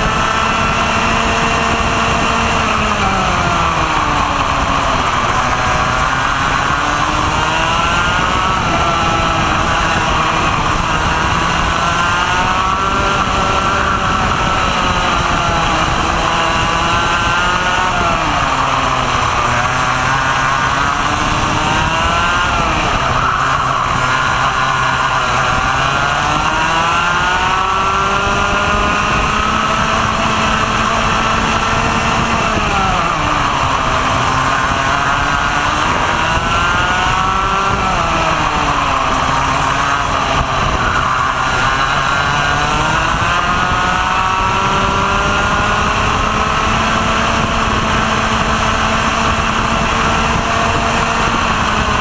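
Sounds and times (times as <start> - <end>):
kart engine revving: 0.0 - 52.0
steady rushing noise: 0.0 - 52.0.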